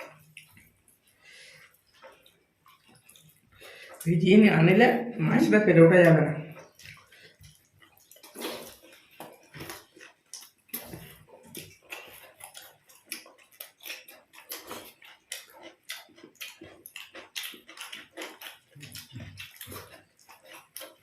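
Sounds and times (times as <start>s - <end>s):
chewing with wet lip smacks: 0.0s - 4.1s, 6.5s - 21.0s.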